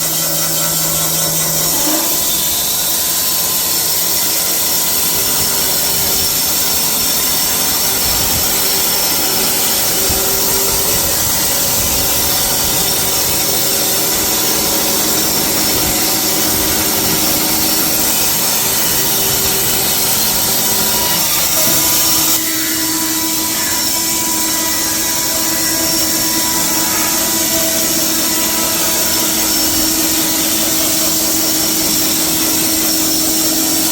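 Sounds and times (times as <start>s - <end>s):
band saw cutting log: 0.0s - 33.9s.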